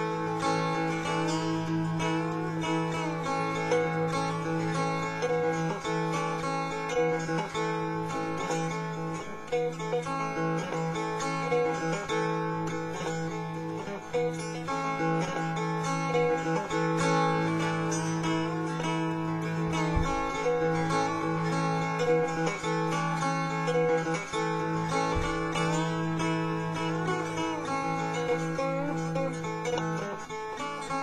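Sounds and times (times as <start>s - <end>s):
dulcimer strummed: 0.0s - 31.0s.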